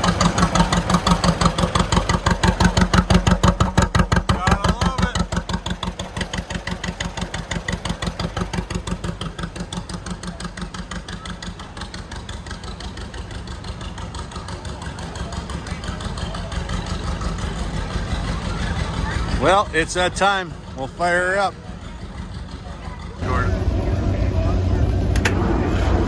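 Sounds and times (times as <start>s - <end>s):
engine idling chugging: 0.0s - 26.0s.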